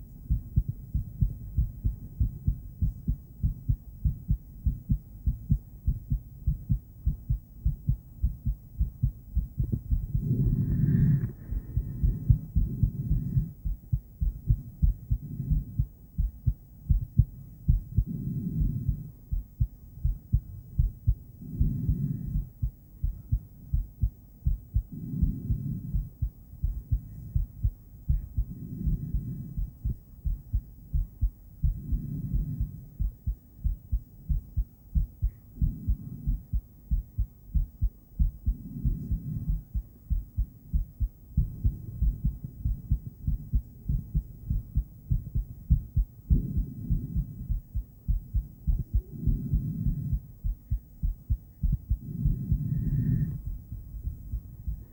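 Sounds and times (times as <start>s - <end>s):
heartbeat on ultrasound monitor: 0.0s - 54.9s.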